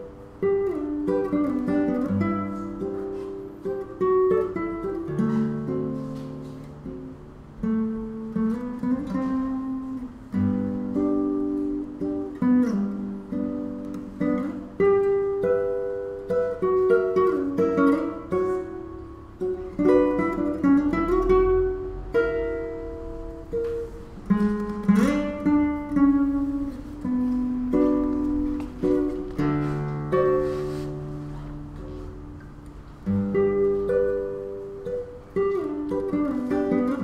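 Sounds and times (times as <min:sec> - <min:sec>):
fingerstyle classical guitar: 0:00.0 - 0:37.0.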